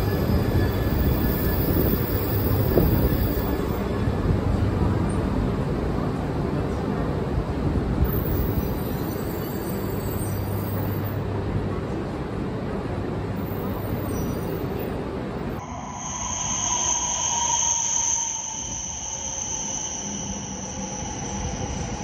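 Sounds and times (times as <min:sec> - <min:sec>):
train rumbling out slowly: 0:00.0 - 0:22.0.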